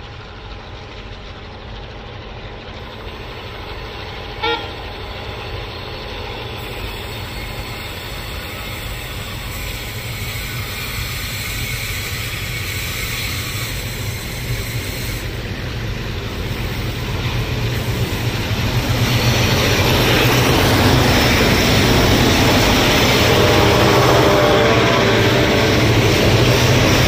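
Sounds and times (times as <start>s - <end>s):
diesel locomotive engines humming: 0.0s - 27.0s
train wheel noise: 0.0s - 27.0s.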